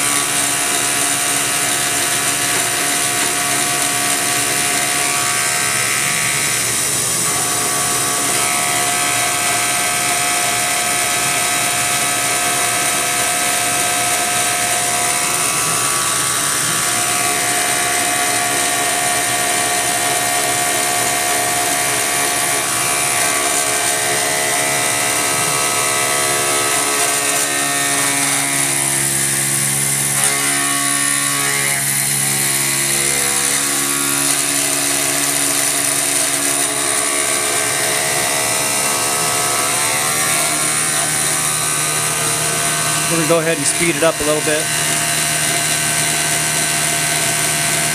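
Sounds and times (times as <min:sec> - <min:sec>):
milling machine whine: 0:00.0 - 0:47.9.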